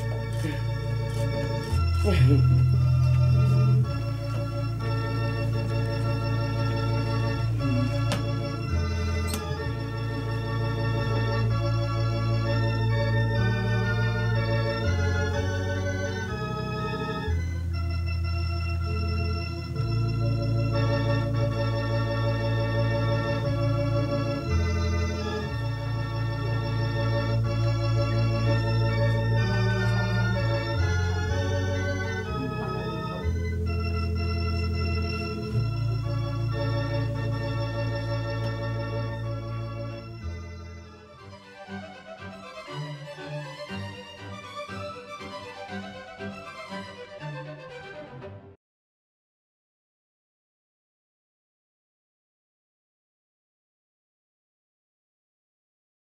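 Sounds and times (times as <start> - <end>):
organ playing slow chords: 0.0 - 48.5.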